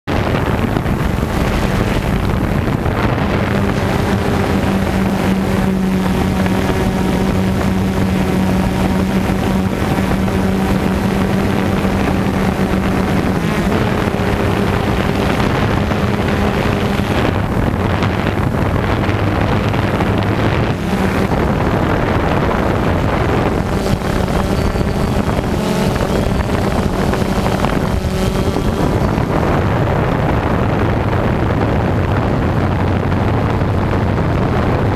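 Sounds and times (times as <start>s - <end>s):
drone propellers buzzing: 0.0s - 34.9s
wind noise on microphone: 0.0s - 34.9s.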